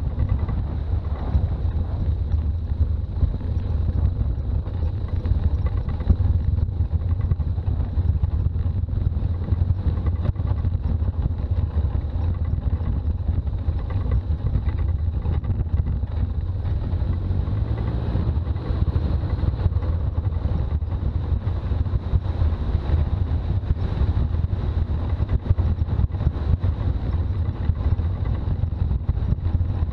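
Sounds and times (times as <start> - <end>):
deep road rumble: 0.0 - 29.9
diesel engine running while driving: 0.0 - 29.9.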